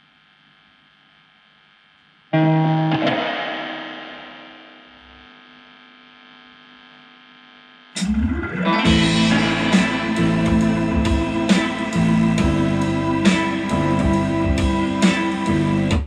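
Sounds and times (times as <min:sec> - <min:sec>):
distorted electric music: 0:01.7 - 0:16.0.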